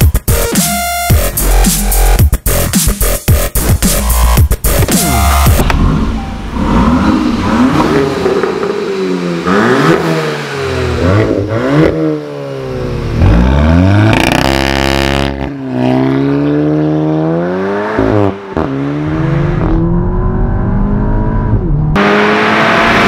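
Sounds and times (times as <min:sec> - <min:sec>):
car engine revving: 0:01.2 - 0:23.0.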